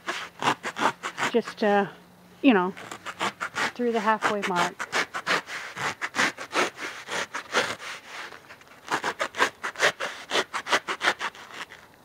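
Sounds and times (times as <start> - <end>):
hand saw sawing through foam: 0.0 - 1.8, 2.6 - 11.8.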